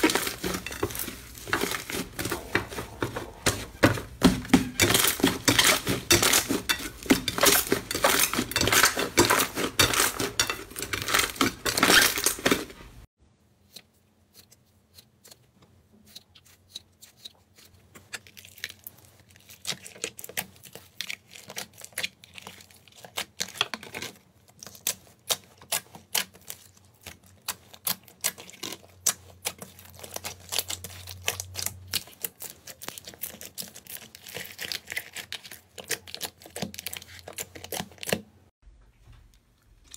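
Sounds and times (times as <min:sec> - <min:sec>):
slime clicking and crackling: 0:00.0 - 0:13.0, 0:16.1 - 0:38.2.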